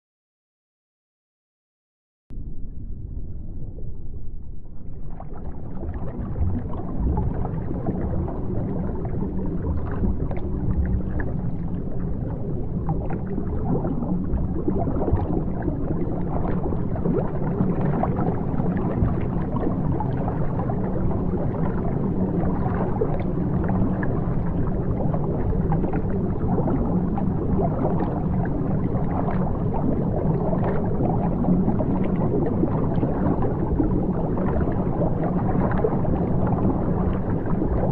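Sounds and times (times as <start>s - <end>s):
water bubbling and gurgling: 3.0s - 37.9s.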